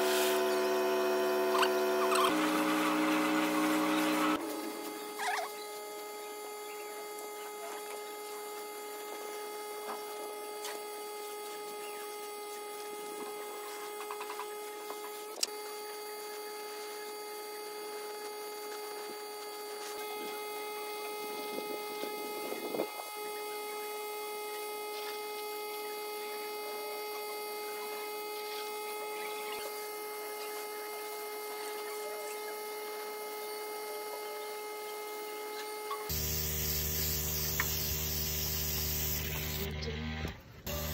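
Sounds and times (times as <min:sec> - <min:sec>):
small electric motor whining: 0:00.0 - 0:40.9.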